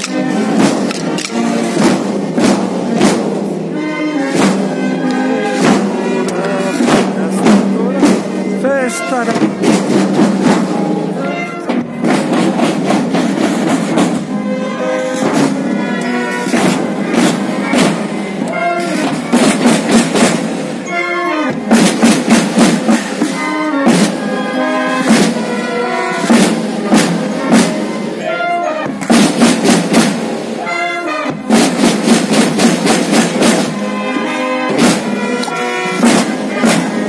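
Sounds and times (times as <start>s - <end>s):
brass melody: 0.0s - 37.0s
drums beating: 0.0s - 37.0s.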